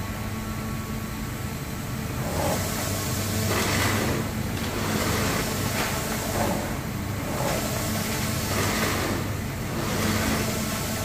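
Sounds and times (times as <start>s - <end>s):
printer carriage hum: 0.0s - 11.0s
grinding rumble: 1.8s - 10.7s.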